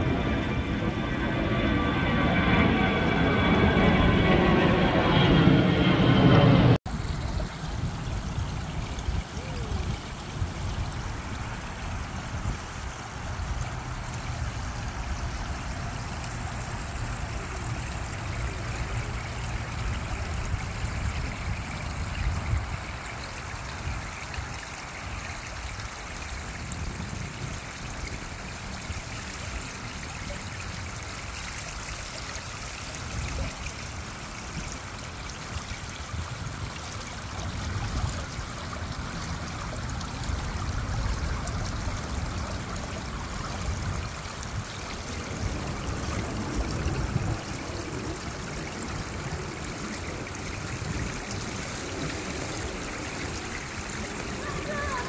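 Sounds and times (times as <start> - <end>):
fountain water trickling: 6.9 - 55.0.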